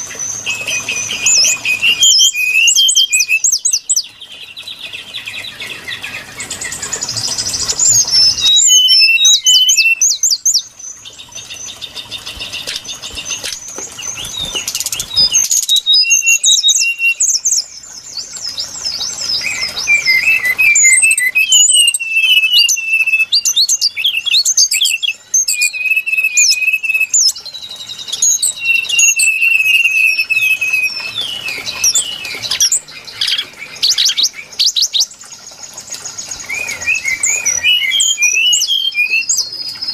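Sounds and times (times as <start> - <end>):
recorded bird song: 0.0 - 39.9.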